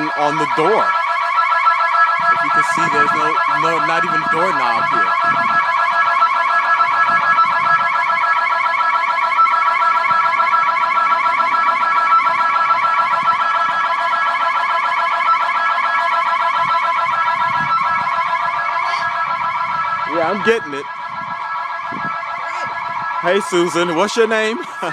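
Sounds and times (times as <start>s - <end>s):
security alarm warbling tone: 0.0s - 24.9s.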